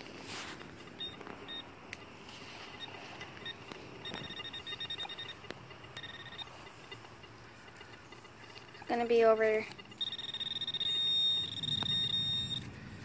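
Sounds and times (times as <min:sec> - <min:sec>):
digging clicks and scrapes in soil: 0:00.0 - 0:10.8
pinpointer beeping: 0:00.9 - 0:12.7.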